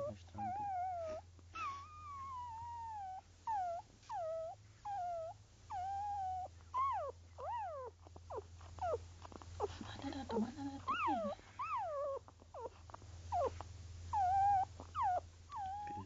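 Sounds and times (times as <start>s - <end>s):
puppies squeaking and whimpering: 0.0s - 16.0s.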